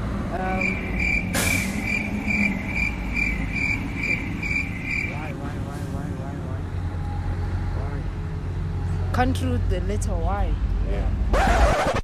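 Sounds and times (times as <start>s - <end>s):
background traffic rumble: 0.0s - 11.7s.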